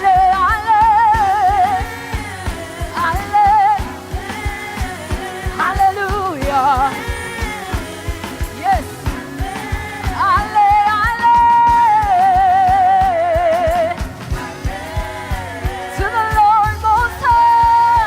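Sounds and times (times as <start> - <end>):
band playing: 0.0 - 18.0
person singing: 0.0 - 18.0
steady drum beat: 0.0 - 18.0.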